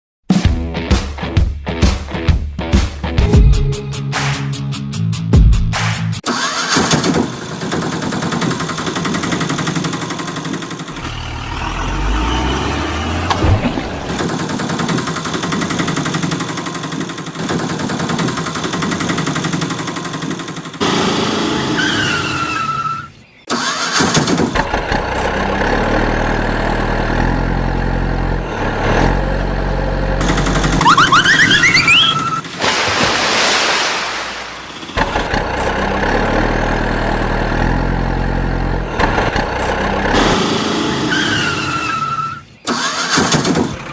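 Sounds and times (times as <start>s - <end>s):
tractor engine running: 6.2s - 22.8s, 23.5s - 33.2s, 34.2s - 43.9s.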